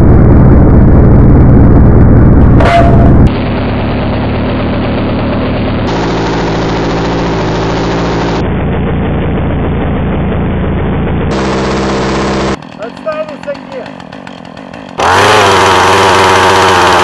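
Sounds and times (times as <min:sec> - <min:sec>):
slowed chainsaw engine drone: 0:00.0 - 0:17.0.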